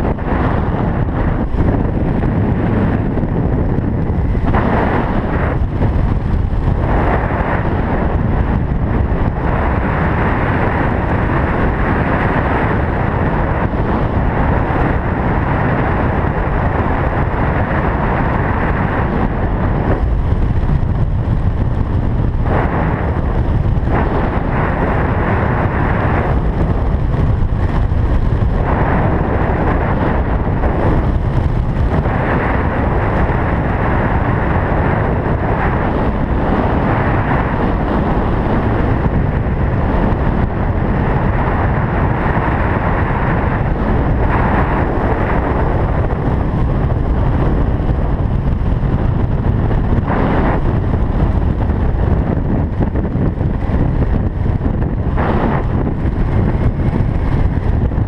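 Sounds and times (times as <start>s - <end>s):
strong wind rushing over microphone: 0.0s - 58.0s.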